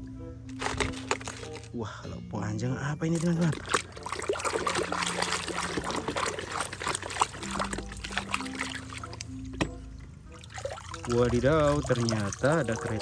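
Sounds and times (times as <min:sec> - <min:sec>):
water pouring and trickling: 0:00.6 - 0:01.7, 0:03.1 - 0:13.0.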